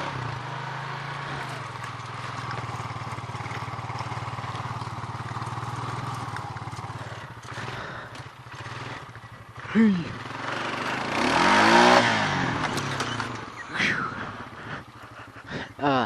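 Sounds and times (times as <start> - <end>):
four-wheeler engine running: 0.0 - 16.0.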